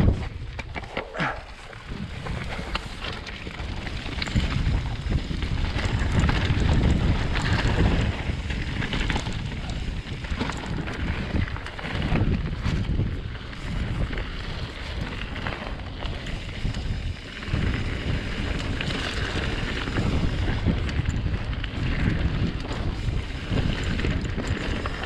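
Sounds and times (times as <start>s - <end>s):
bike rattling and knocking: 0.0s - 25.0s
wind rushing over microphone: 0.0s - 25.0s.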